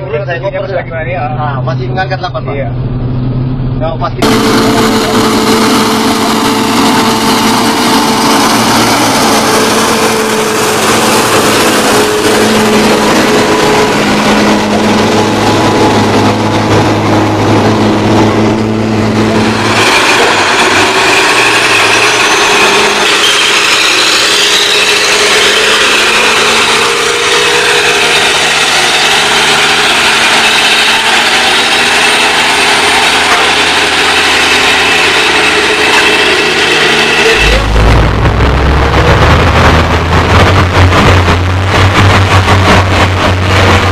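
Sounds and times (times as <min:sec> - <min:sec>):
truck engine running under load: 0:02.6 - 0:43.9.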